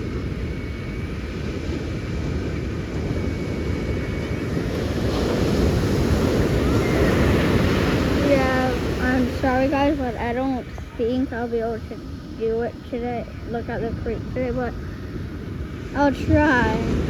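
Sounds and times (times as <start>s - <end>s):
ocean surf breaking: 0.0s - 17.0s
wind rumbling on microphone: 0.0s - 17.0s.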